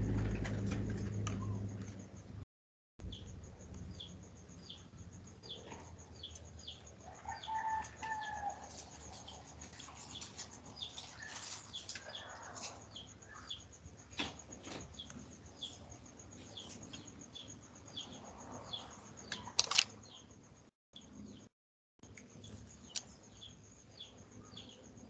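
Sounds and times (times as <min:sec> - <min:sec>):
birds chirping faintly: 0:03.0 - 0:25.0.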